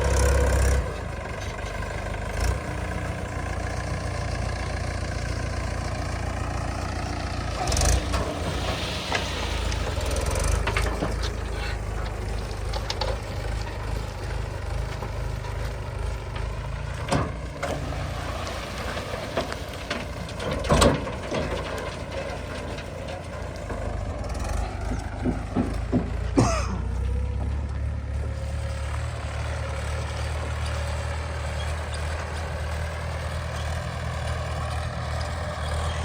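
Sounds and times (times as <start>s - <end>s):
diesel machinery rumbling: 0.0s - 36.0s.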